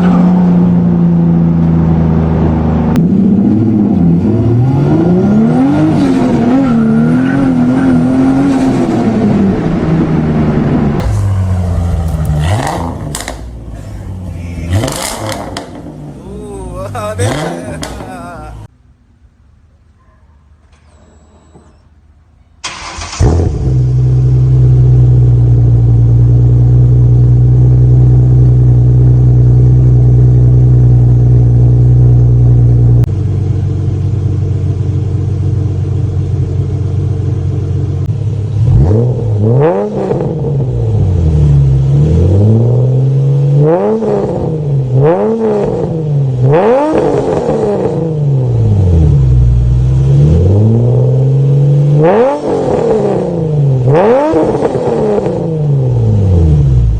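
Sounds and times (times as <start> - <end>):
car engine idling and revving: 0.0 - 18.7, 22.6 - 56.9.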